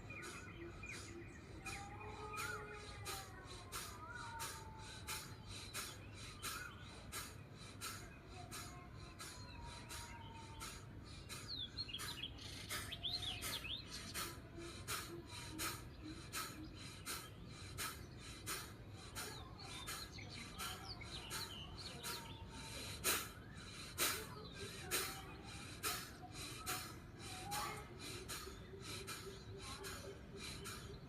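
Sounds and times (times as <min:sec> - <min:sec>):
birds chirping and twittering: 0:00.0 - 0:31.0.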